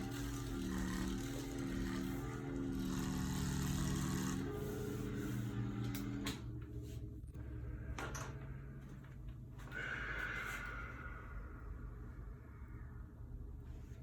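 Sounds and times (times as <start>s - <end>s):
massage chair motor humming: 0.0s - 14.0s.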